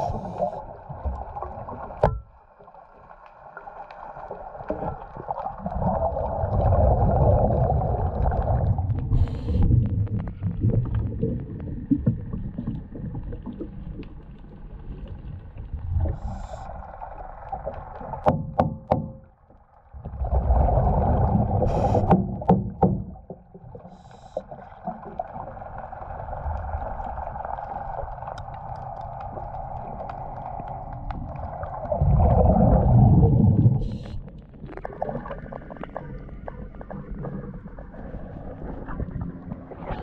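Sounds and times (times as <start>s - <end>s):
muffled underwater rushing: 0.0s - 18.3s, 19.9s - 40.0s.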